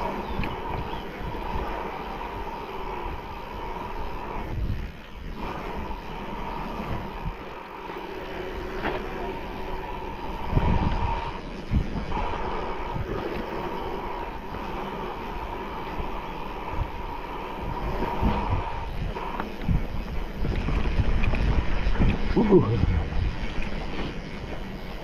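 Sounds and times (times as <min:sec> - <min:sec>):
bike hard jolts: 0:00.0 - 0:25.0
bike rattling over ground: 0:00.0 - 0:25.0
steady whir: 0:00.0 - 0:25.0
wind rushing over microphone: 0:00.0 - 0:25.0.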